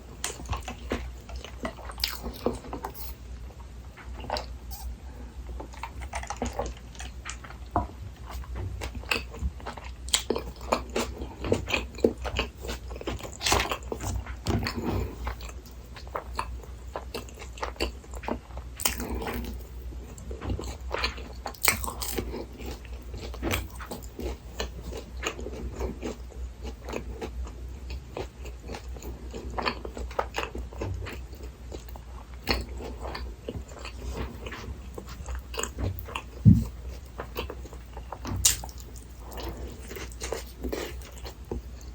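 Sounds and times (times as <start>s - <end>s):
chewing and crunching food: 0.0s - 41.9s
steady low hum: 0.0s - 41.9s.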